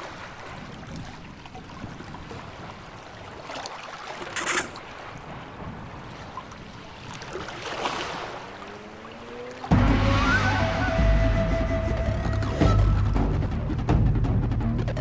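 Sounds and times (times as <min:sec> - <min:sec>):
steady rushing water: 0:00.0 - 0:12.6.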